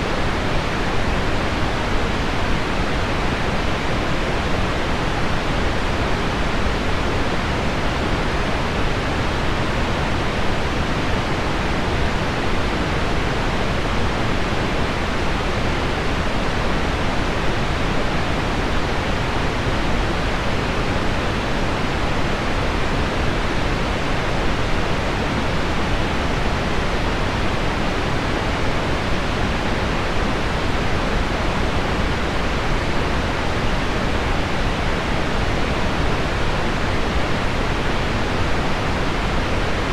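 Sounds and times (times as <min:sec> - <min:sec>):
low pink noise: 0:00.0 - 0:39.9.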